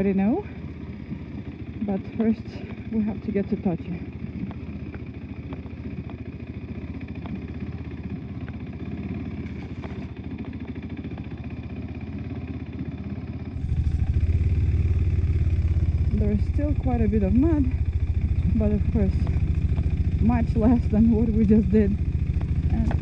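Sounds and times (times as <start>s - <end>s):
motorcycle engine running: 0.0s - 23.0s
light engine clatter clicks: 0.6s - 3.0s, 3.6s - 12.6s, 13.7s - 23.0s.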